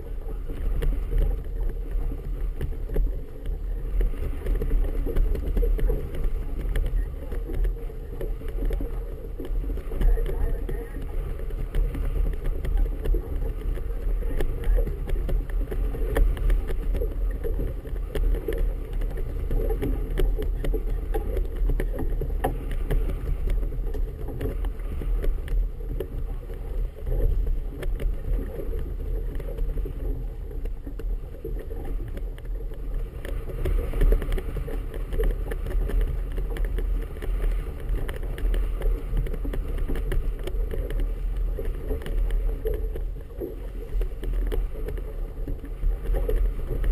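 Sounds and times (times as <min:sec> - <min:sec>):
water slapping hull: 0:00.0 - 0:46.9
wind buffeting camera: 0:00.0 - 0:46.9.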